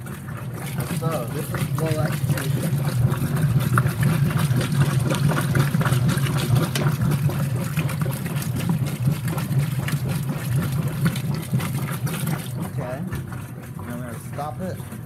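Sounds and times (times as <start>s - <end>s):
washing machine motor hum: 0.0s - 15.0s
water sloshing in tub: 0.0s - 15.0s.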